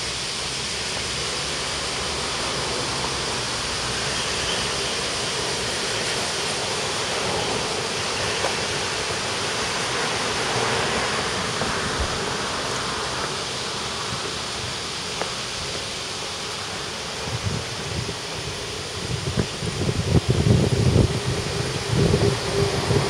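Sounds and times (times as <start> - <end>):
low wind buffets: 0.0 - 23.0
street ambience rushing noise: 0.0 - 23.0.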